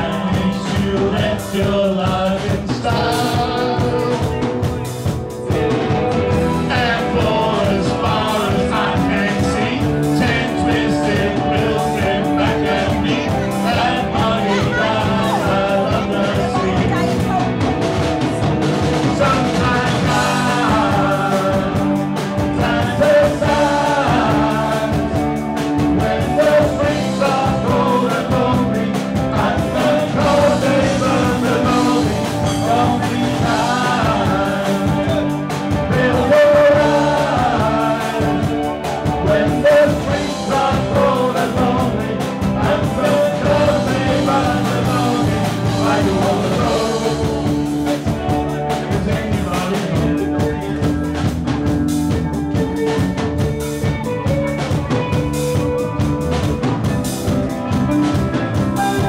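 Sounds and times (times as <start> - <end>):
man singing into a microphone: 0.0 - 4.9, 6.5 - 17.4, 19.0 - 25.3, 25.9 - 51.1
bass guitar: 0.0 - 59.0
drums: 0.0 - 59.0
electric guitar: 0.0 - 59.0.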